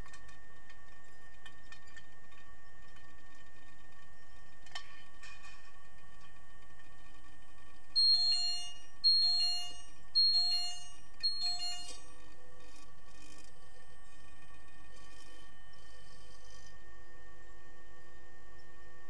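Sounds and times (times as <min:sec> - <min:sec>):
pool machinery hum: 0:00.0 - 0:19.0.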